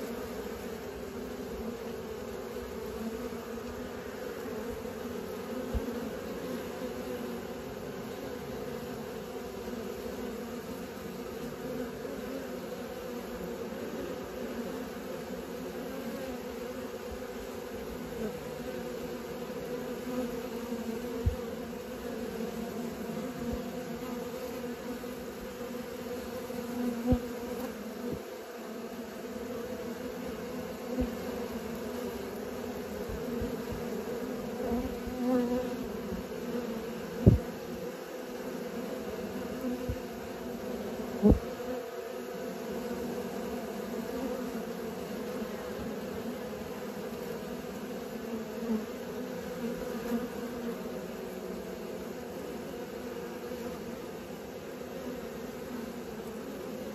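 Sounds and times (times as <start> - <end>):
honeybees buzzing: 0.0 - 56.9.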